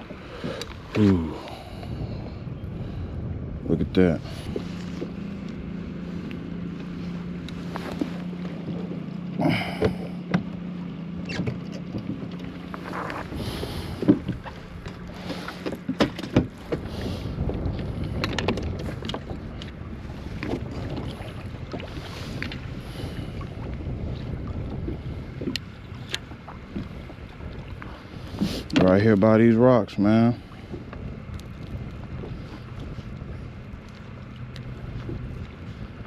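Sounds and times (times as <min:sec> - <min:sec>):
water noise: 0:00.0 - 0:36.0
wind: 0:00.0 - 0:36.0
knocks and clatter on a kayak: 0:06.2 - 0:36.0.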